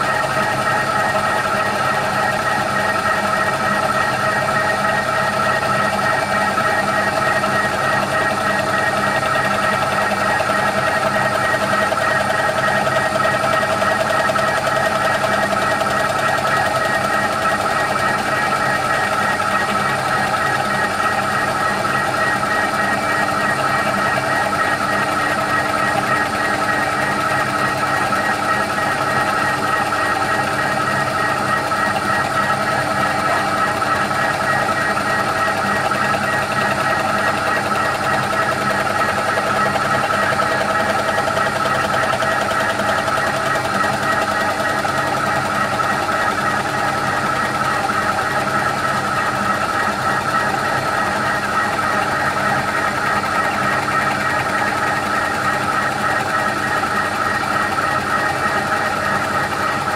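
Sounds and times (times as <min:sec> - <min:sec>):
milling machine whine: 0:00.0 - 0:59.9.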